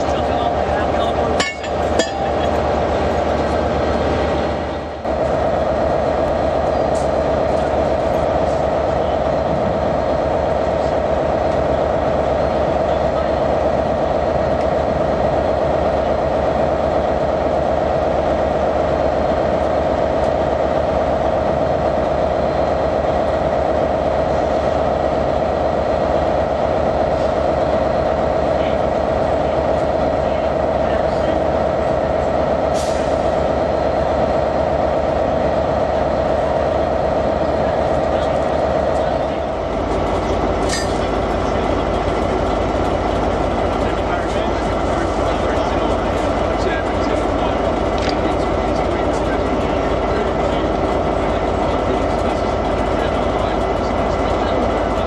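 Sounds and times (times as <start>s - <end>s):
diesel train engine idling: 0.0s - 55.0s.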